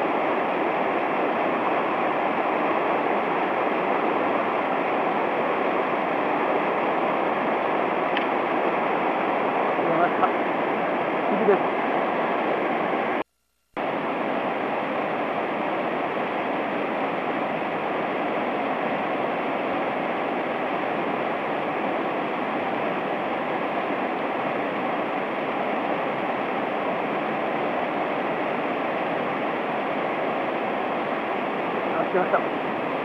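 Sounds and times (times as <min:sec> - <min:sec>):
fast-flowing stream water rushing: 0:00.0 - 0:13.2, 0:13.8 - 0:33.0.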